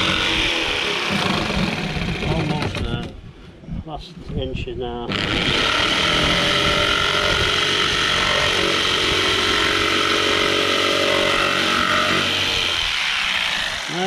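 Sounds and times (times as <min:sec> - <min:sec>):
electric jigsaw cutting wood: 0:00.0 - 0:03.0, 0:05.1 - 0:14.0.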